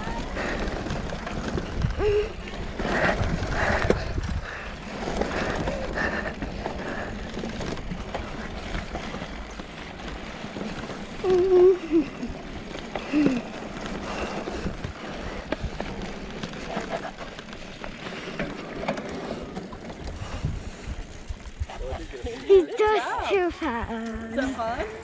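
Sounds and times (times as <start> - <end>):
outdoor rumble and rustle: 0.0 - 25.0.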